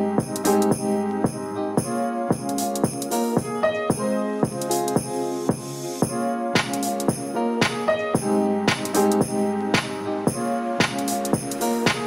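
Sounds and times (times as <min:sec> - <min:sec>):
pop song with keyboard chords: 0:00.0 - 0:12.0.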